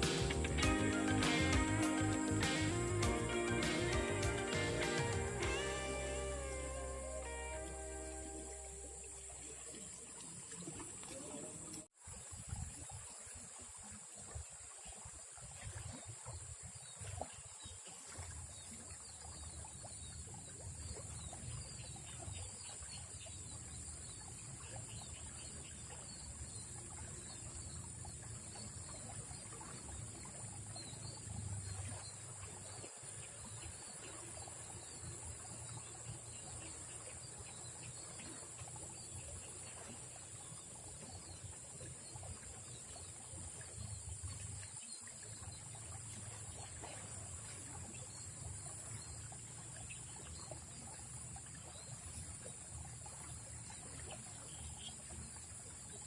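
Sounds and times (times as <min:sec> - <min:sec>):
faint trickling water: 0:00.0 - 0:56.0.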